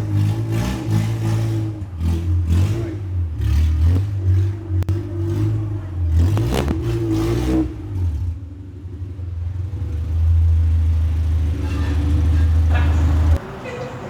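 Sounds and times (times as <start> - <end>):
car engine driving: 0.0 - 14.0.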